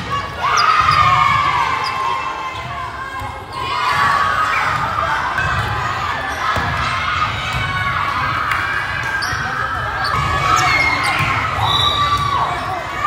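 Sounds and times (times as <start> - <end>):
people shouting and cheering: 0.0 - 13.0.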